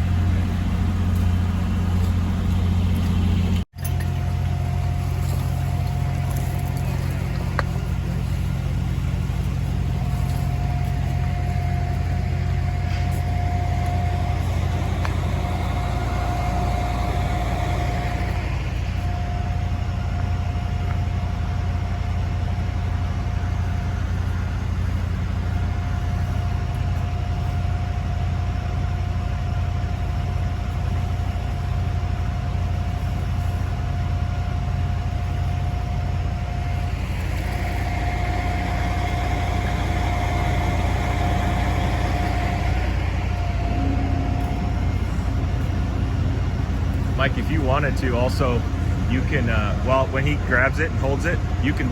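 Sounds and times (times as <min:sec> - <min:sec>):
thin high whine: 0:00.0 - 0:28.0, 0:30.9 - 0:51.9
diesel engine idling: 0:00.0 - 0:51.9.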